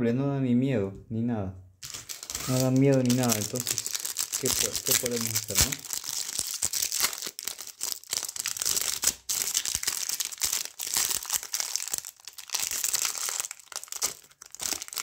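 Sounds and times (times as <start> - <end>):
wrappers crinkling and tearing: 1.8 - 15.0.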